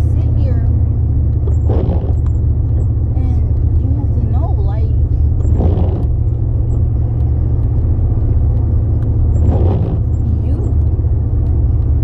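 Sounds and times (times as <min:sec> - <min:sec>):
car cabin engine and road drone: 0:00.0 - 0:12.0.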